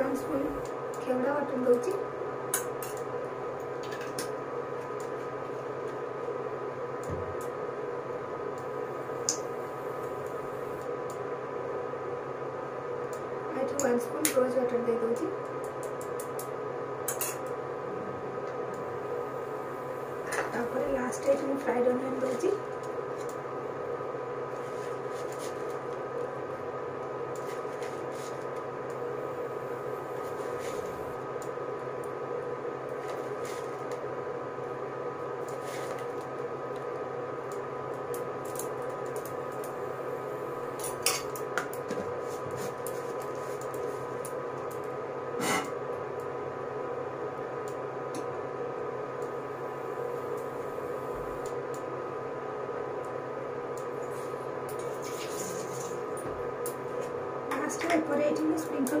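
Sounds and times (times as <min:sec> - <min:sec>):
steady hum with faint whine: 0:00.0 - 0:59.0.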